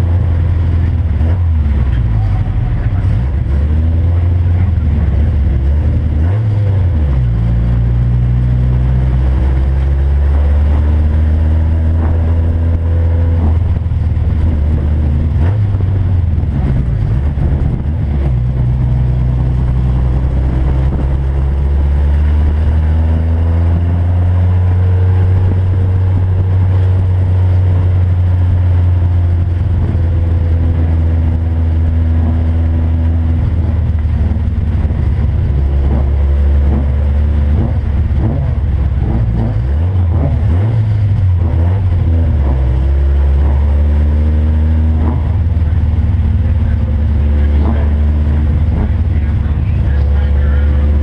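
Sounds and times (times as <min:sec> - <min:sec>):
race car engine: 0:00.0 - 0:51.0.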